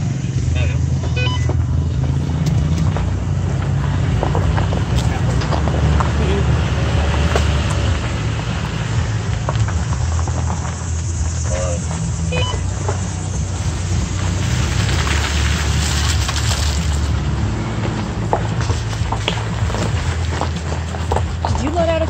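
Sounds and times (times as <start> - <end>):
pickup truck engine rumble: 0.0 - 22.0
tyres crunching over gravel: 0.0 - 22.0.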